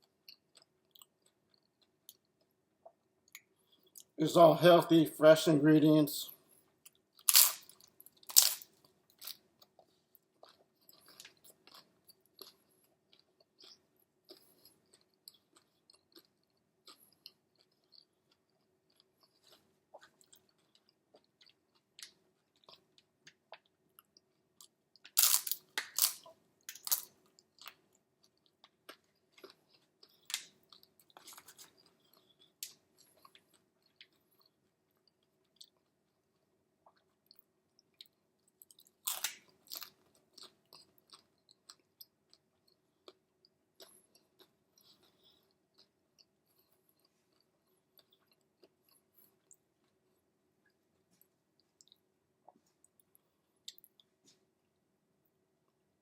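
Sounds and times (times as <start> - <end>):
person chewing and crunching: 0.0 - 4.2, 6.5 - 54.4.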